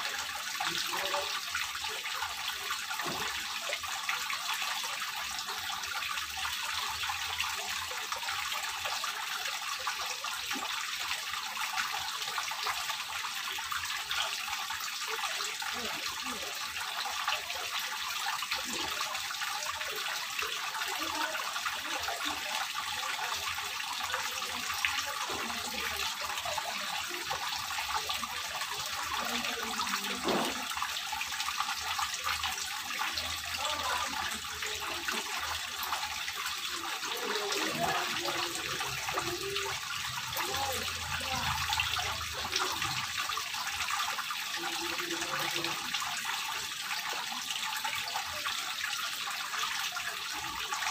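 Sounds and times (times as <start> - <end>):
fountain water splashing into pond: 0.0 - 50.9.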